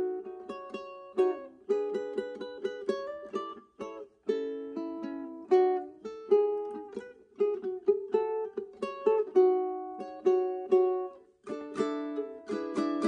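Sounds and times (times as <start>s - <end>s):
ukulele fingerstyle melody: 0.0s - 13.0s.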